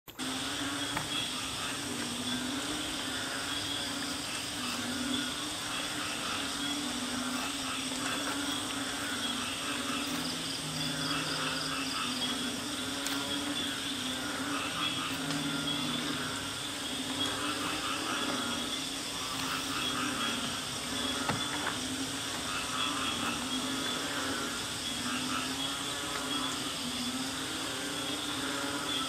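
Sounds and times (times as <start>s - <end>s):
high insect trilling: 0.1s - 29.0s
low frog calls: 0.1s - 29.0s.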